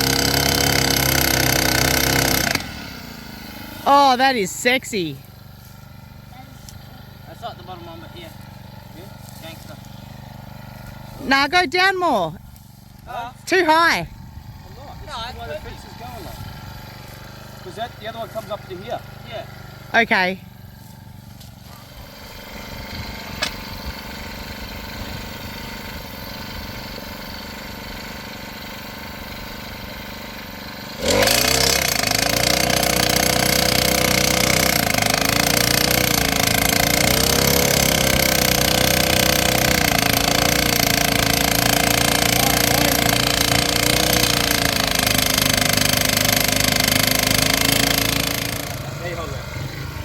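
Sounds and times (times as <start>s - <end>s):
post driver engine running: 0.0s - 50.0s.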